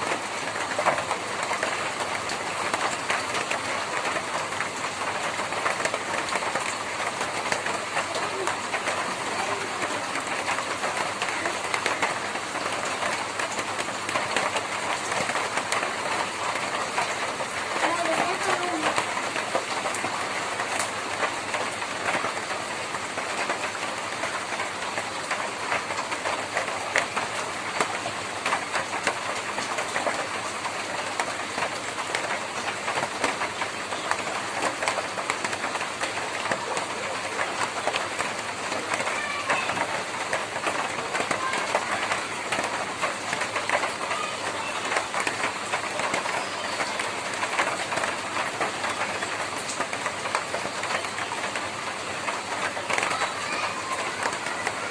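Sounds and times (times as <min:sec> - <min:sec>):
rain on a tin roof: 0:00.0 - 0:54.9.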